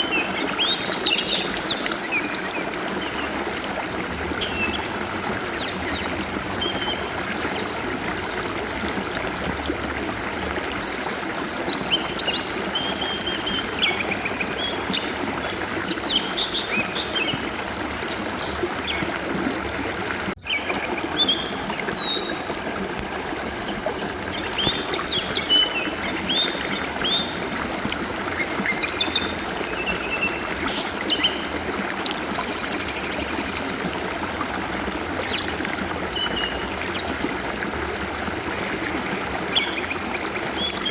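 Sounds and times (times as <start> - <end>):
water flowing: 0.0 - 40.9.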